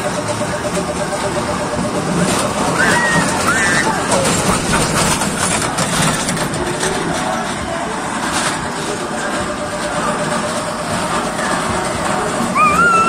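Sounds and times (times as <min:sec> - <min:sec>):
faint voices: 0:00.0 - 0:13.0
train ride rumble and rattle: 0:00.0 - 0:13.0.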